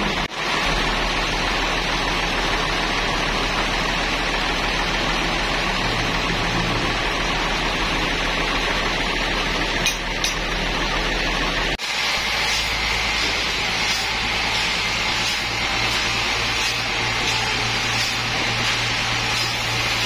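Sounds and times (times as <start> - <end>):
sawmill machinery hissing: 0.0 - 20.0.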